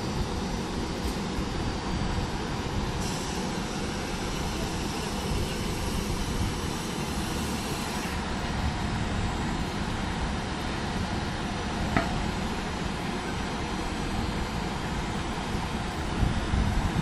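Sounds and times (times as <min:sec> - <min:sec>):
train rumble and hiss: 0:00.0 - 0:17.0.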